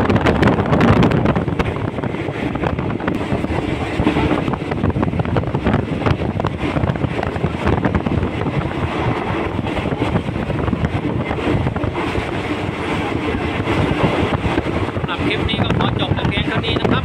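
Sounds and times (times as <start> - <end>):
train rumbling on rails: 0.0 - 17.0
wind rushing on microphone: 0.0 - 17.0.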